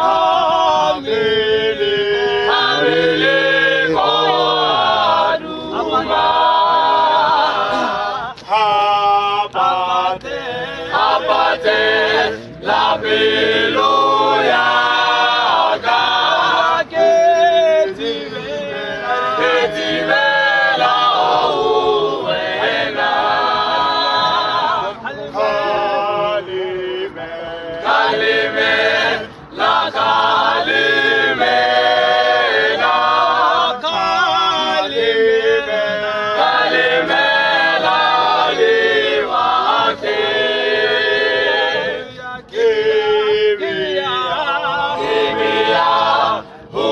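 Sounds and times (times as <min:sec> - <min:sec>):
male choir singing a cappella: 0:00.0 - 0:46.9.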